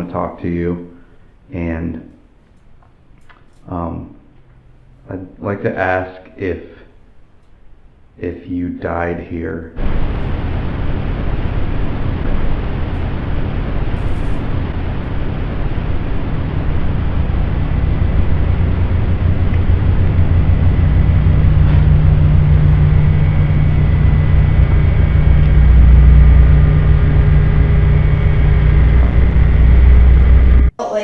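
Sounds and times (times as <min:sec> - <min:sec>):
faint hum tones: 0:00.0 - 0:31.0
low rumble with hiss: 0:03.7 - 0:31.0.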